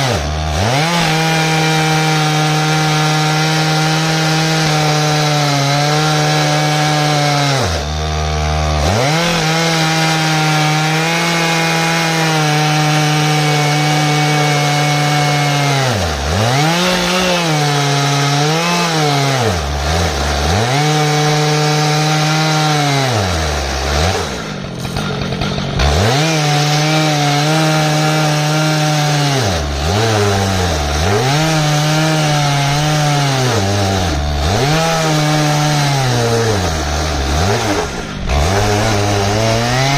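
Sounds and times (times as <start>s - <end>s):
chainsaw ripping log: 0.0s - 39.9s.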